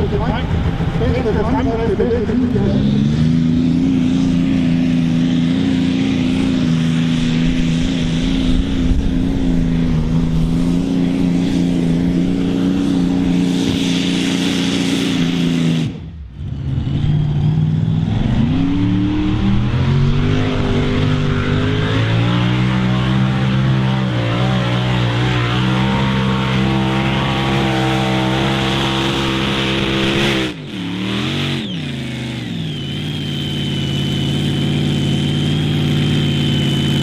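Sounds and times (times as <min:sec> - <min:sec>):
engine revving up: 0:00.0 - 0:37.0
pulling tractor engine roaring: 0:00.0 - 0:37.0.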